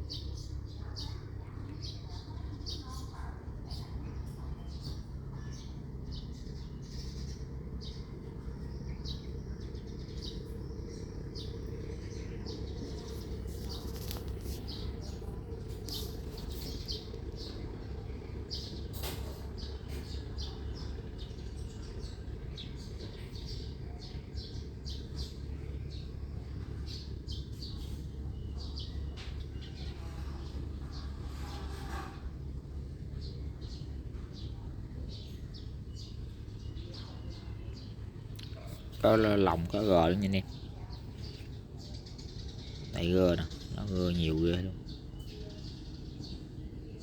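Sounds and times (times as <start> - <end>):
small birds chirping: 0.0 - 47.0
steady low hum: 0.0 - 47.0.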